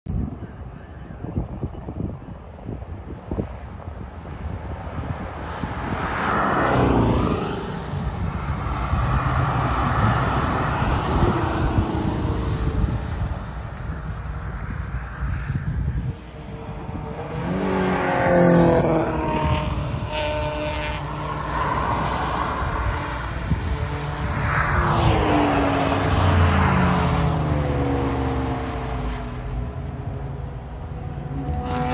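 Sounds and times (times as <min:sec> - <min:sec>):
race cars passing at speed: 0:00.2 - 0:31.9.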